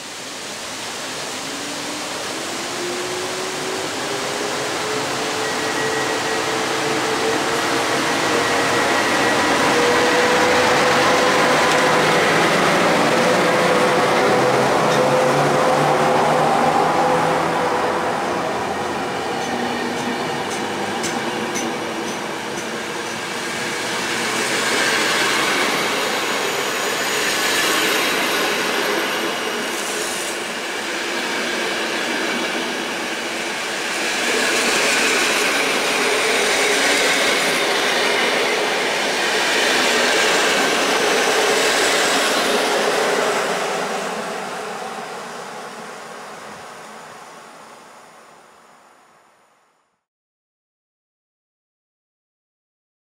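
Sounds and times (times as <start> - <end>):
train coaches rolling past: 0.4 - 47.2.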